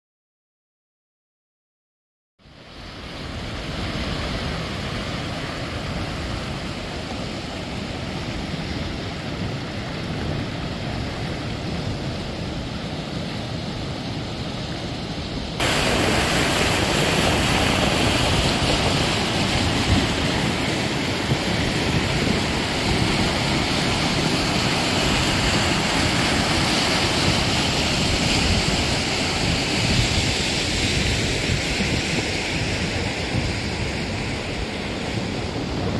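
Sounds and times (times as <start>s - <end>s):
river rapids rushing: 3.0s - 35.9s.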